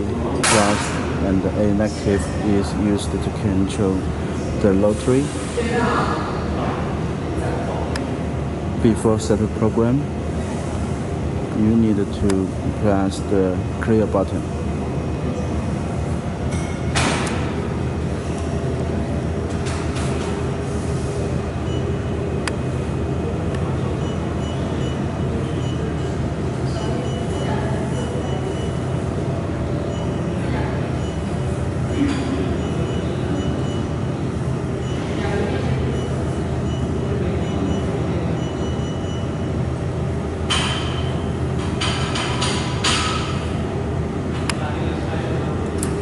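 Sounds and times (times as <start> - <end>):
industrial machinery humming: 0.0 - 46.0.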